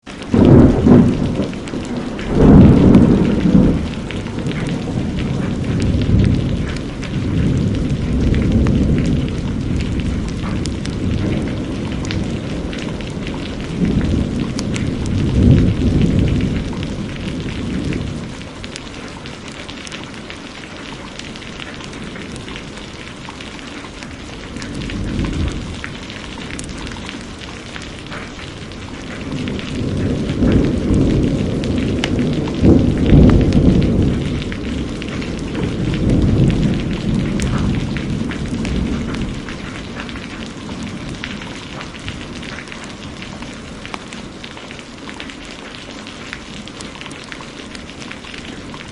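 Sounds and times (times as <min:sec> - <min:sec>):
heavy rain falling: 0:00.0 - 0:48.9
rolling thunder: 0:00.1 - 0:48.9.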